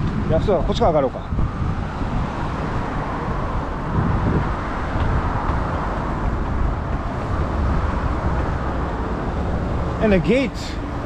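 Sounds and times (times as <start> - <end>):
cars passing on road: 0.0 - 11.0.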